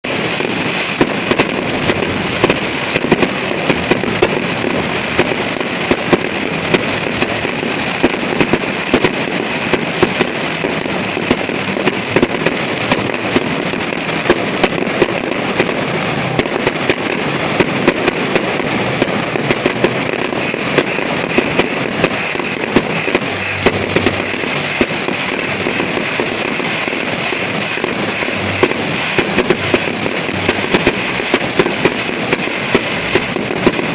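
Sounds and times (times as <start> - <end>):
fireworks crackling: 0.0 - 33.9
fireworks popping: 0.0 - 33.9.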